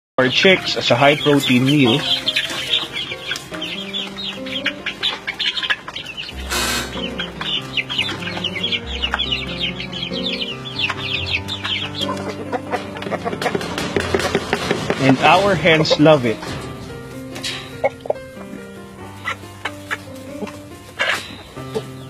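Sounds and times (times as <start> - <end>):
hens clucking: 0.2 - 22.0
music of held notes: 0.2 - 22.0.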